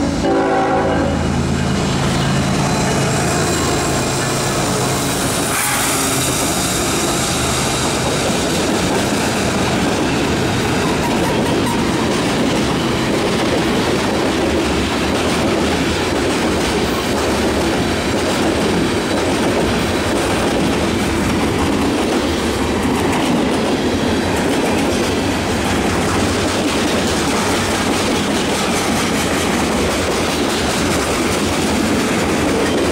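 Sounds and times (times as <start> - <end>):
freight train rolling past: 0.0 - 32.9
steel wheels on rail: 0.0 - 32.9.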